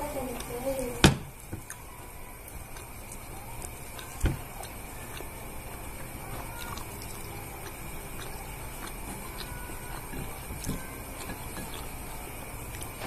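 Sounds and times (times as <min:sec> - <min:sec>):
person eating by hand: 0:00.0 - 0:13.0
room noise: 0:00.0 - 0:13.0.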